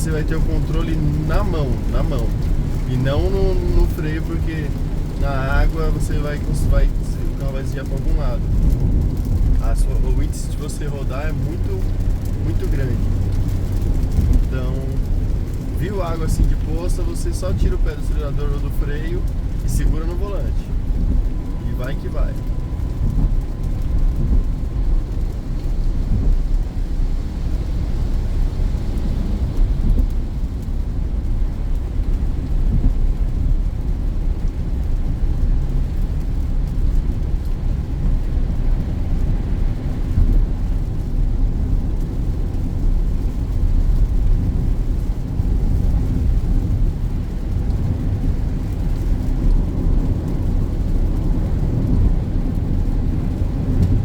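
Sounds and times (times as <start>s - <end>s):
car cabin road rumble: 0.0s - 54.0s
rain: 0.0s - 54.0s.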